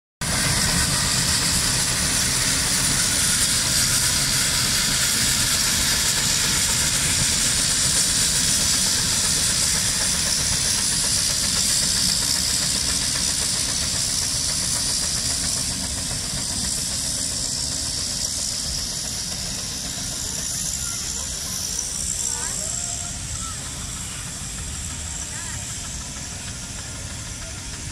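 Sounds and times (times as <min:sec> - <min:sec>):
loud steam hiss: 0:00.2 - 0:27.9.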